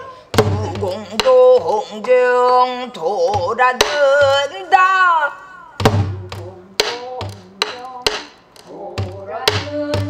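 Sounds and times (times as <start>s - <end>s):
woman singing: 0.0s - 10.0s.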